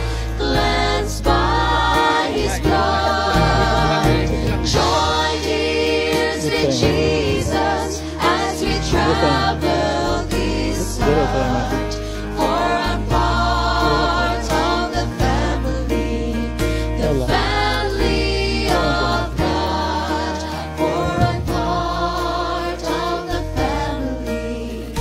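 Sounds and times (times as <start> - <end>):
gospel choir singing: 0.0 - 25.0
steady bass notes: 0.0 - 25.0.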